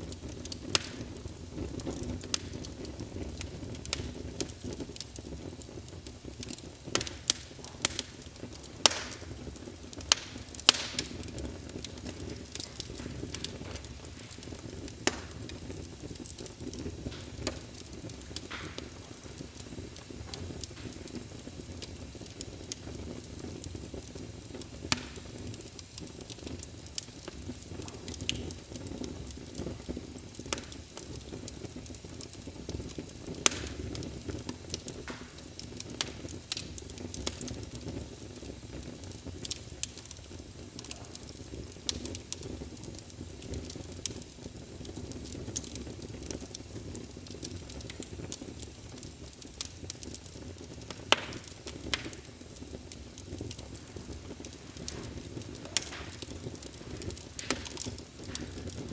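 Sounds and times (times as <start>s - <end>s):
fire crackles and pops: 0.0s - 58.9s
low rush of flames: 0.0s - 58.9s.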